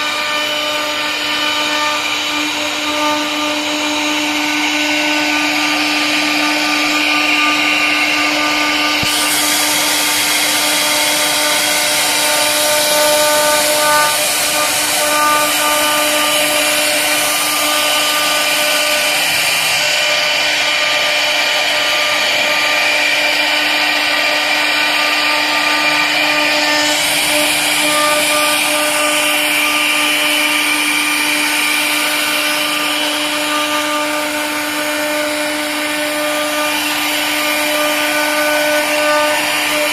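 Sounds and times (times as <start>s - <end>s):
hiss of bit cutting: 0.0s - 39.9s
router spindle running: 0.0s - 39.9s.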